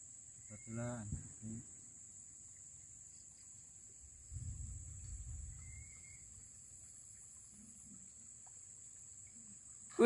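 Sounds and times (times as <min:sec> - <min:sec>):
crickets droning: 0:00.0 - 0:10.0.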